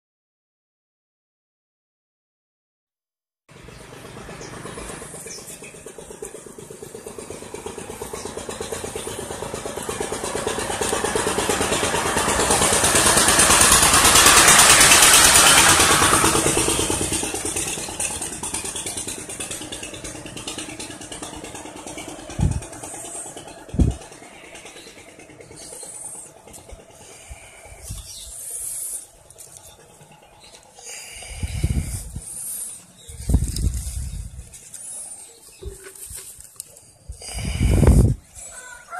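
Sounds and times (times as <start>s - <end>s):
vehicle engine passing by: 3.5s - 38.9s.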